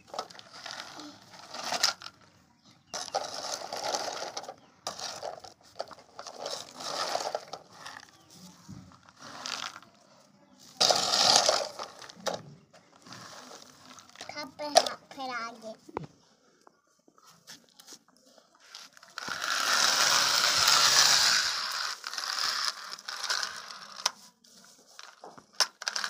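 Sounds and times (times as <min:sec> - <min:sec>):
pellets rattling: 0:00.0 - 0:10.0, 0:10.6 - 0:12.4, 0:13.0 - 0:15.0, 0:18.8 - 0:26.0
toy loader scraping on concrete: 0:00.0 - 0:15.8, 0:17.2 - 0:26.0.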